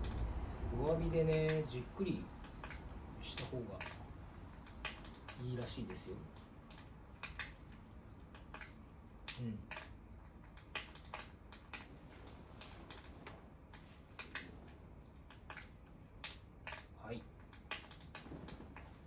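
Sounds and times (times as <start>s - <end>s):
faint low background: 0.0s - 19.0s
fire crackling and popping: 0.0s - 19.0s.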